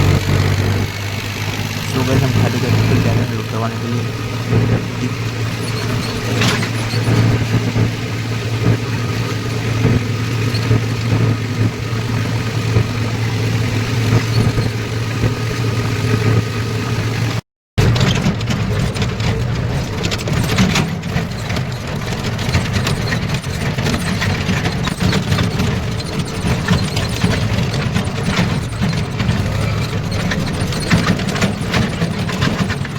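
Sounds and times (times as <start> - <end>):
diesel tractor engine running: 0.0 - 32.9.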